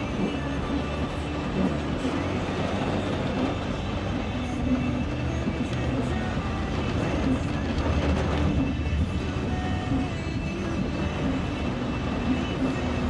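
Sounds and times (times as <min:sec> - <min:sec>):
rain hitting car: 0:00.0 - 0:13.0
tyres rumbling on wet road: 0:00.0 - 0:13.0.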